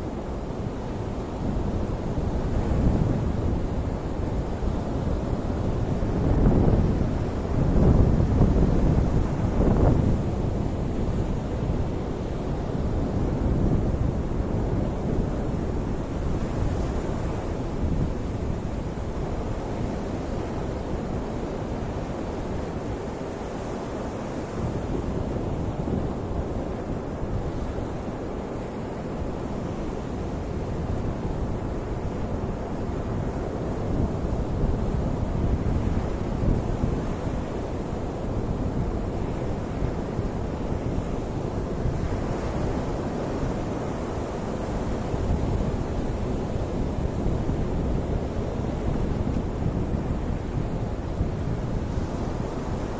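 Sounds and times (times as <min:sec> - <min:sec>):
wind rumble on microphone: 0:00.0 - 0:52.9.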